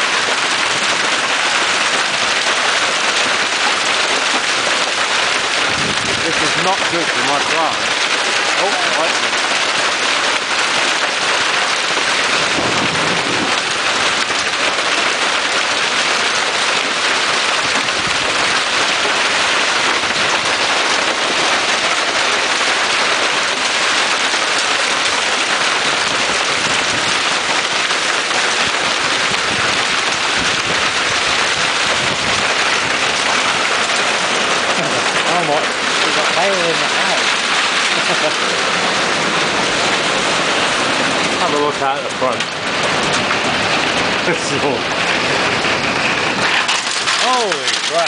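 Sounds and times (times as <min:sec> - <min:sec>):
hail and heavy rain: 0:00.0 - 0:48.0.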